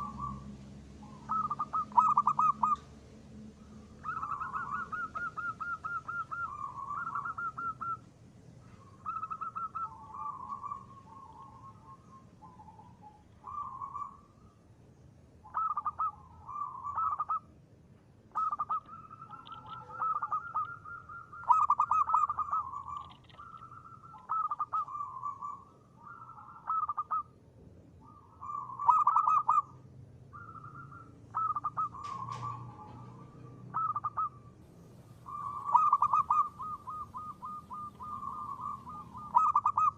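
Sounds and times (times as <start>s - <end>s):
doves cooing: 0.0s - 14.6s, 15.4s - 17.6s, 18.2s - 27.4s, 28.0s - 39.9s.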